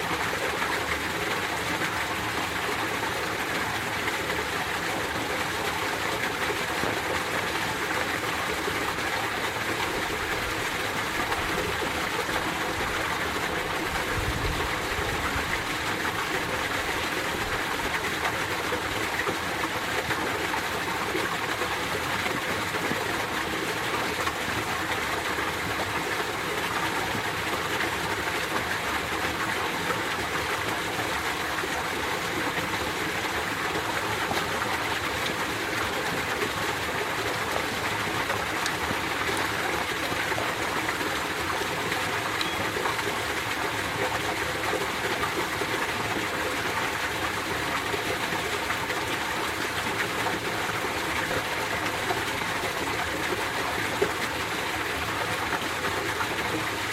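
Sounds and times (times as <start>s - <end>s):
stream rushing over rocks: 0.0s - 56.9s.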